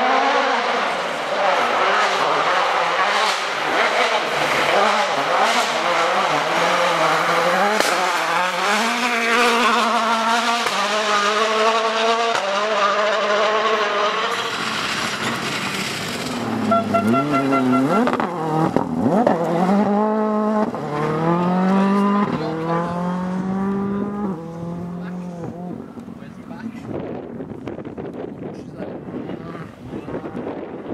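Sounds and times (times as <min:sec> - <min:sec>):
rally car engine accelerating: 0:00.0 - 0:30.9.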